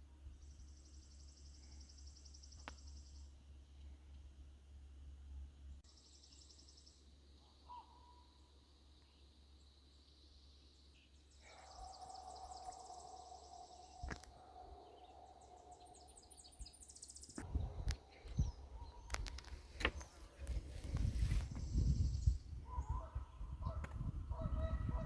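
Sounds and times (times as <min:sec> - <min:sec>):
songbirds trilling: 0:00.0 - 0:04.3, 0:05.6 - 0:25.0
faint steady hum: 0:00.0 - 0:25.0.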